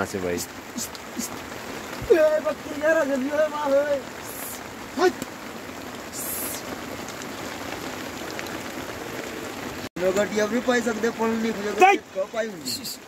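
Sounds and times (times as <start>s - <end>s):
heavy rain on a tarp: 0.0s - 13.0s.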